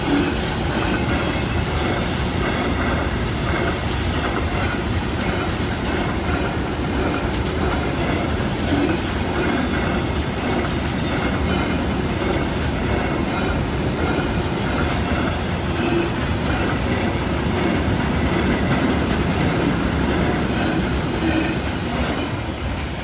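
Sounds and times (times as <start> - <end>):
train wagons rumbling on rails: 0.0 - 23.0.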